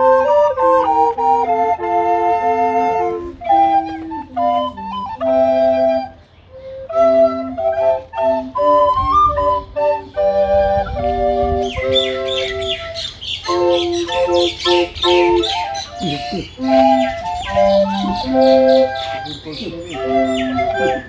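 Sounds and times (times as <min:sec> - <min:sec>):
recorder ensemble playing: 0:00.0 - 0:21.0.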